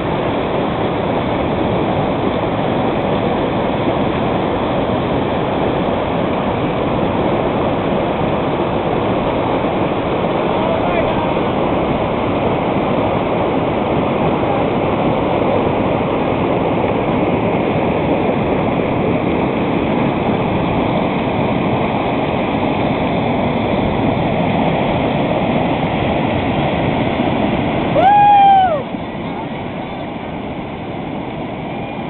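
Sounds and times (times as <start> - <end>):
river rapids rushing: 0.0 - 32.0.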